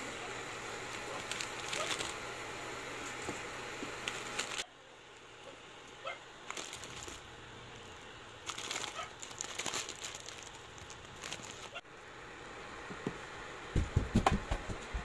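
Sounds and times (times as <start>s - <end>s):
pot boiling with bubbling hiss: 0.0s - 13.8s.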